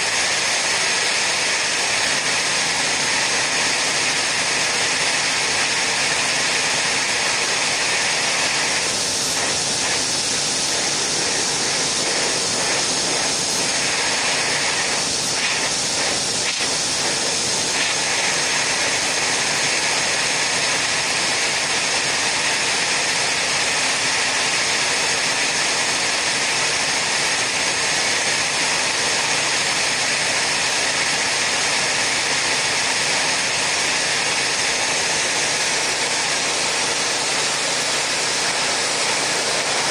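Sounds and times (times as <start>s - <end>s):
air jet hissing: 0.0s - 39.9s.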